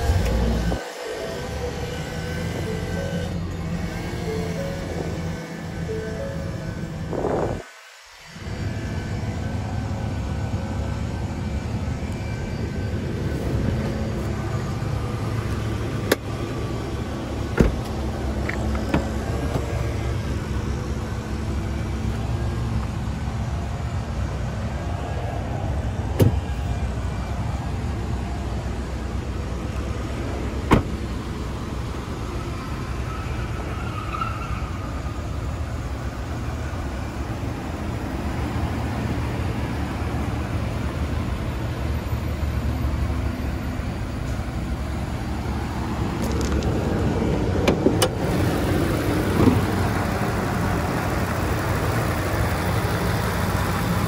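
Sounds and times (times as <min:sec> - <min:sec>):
truck engine idling: 0:00.0 - 0:07.6, 0:08.2 - 0:34.1, 0:34.7 - 0:54.0.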